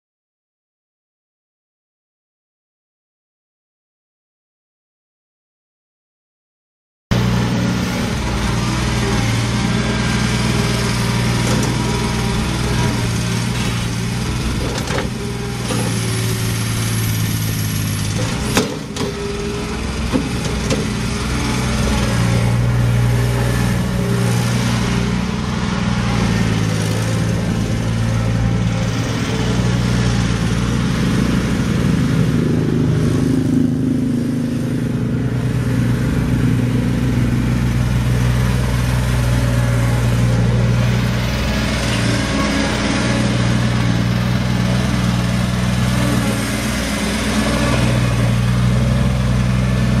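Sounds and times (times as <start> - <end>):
diesel engine running: 7.1 - 50.0.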